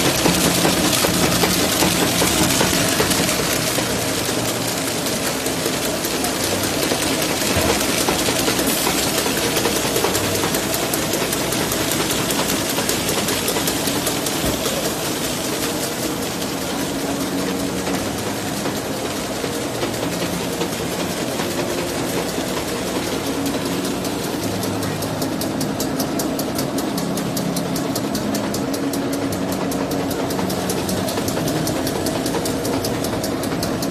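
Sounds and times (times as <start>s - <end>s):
machine clattering and clicking: 0.0s - 33.9s.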